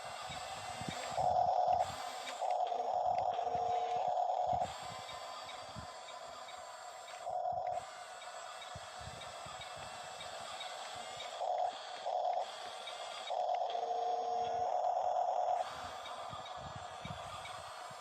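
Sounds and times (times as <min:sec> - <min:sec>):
steady hum: 0:00.0 - 0:18.0
toy electric motors whining: 0:00.0 - 0:18.0.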